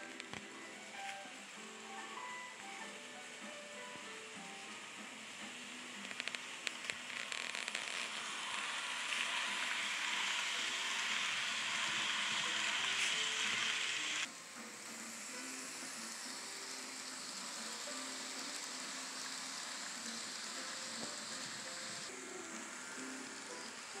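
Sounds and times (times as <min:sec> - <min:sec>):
model train whirring on track: 0:00.0 - 0:24.0.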